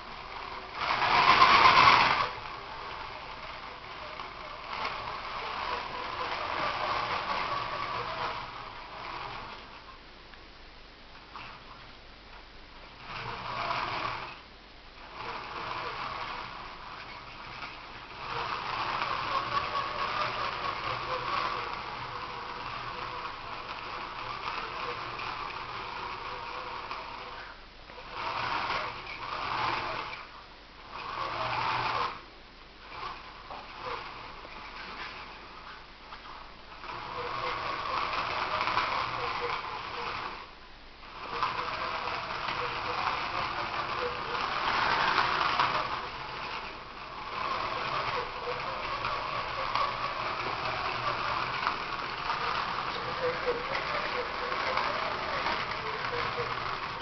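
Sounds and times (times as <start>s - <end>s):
faint wavering whine: 0.0s - 57.0s
model boat drive units running: 0.0s - 57.0s.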